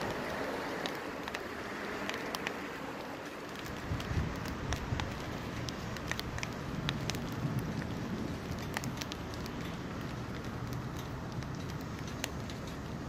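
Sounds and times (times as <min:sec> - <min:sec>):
raindrops ticking close by: 0:00.0 - 0:13.0
steady rain falling: 0:00.0 - 0:13.0.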